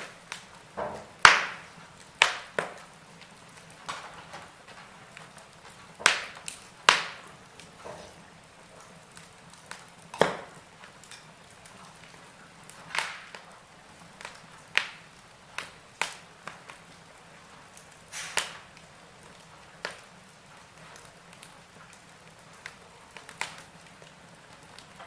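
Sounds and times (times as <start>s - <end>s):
faint hiss of fire: 0.0s - 25.0s
fire pops and snaps: 0.0s - 25.0s.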